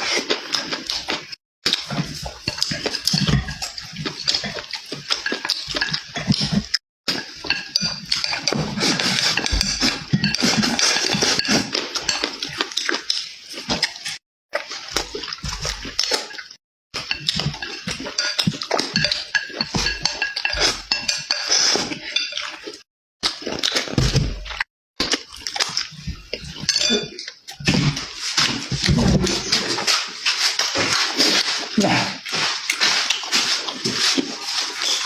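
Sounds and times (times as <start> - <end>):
utensils clinking against dishes: 0.0 - 14.2, 14.9 - 22.8, 25.3 - 35.0
chewing and mouth noises: 0.0 - 35.0.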